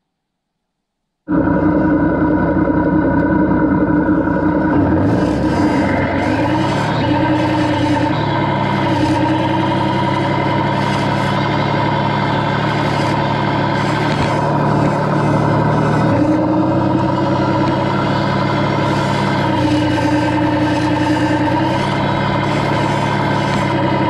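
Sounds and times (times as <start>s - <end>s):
simulated diesel engine: 1.2s - 24.0s.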